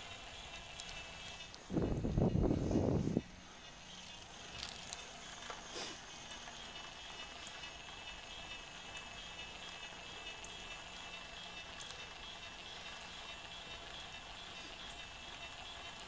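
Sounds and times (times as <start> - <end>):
bicycle rolling on asphalt: 0.0 - 16.0.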